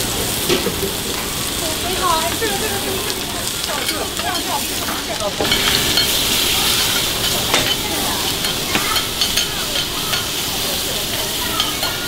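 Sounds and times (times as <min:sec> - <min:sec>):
food sizzling on hot plates: 0:00.0 - 0:12.0.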